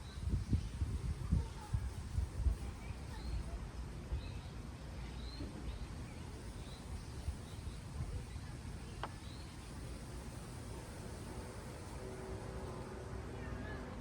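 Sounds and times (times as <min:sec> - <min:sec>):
low rumble of wind: 0:00.0 - 0:14.0
small birds chirping: 0:00.0 - 0:14.0.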